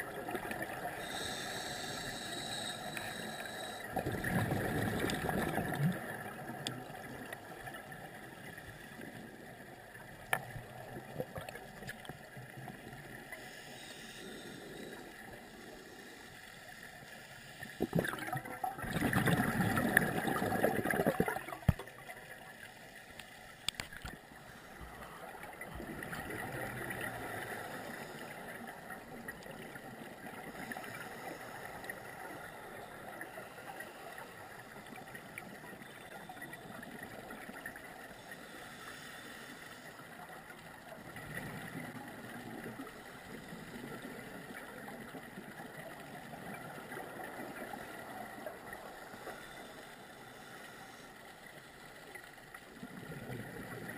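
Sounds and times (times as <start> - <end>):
underwater exhaled bubbles gurgling: 0.0 - 16.2, 17.6 - 22.7, 25.0 - 38.8, 39.4 - 53.9
low bubbling hiss: 0.0 - 53.9.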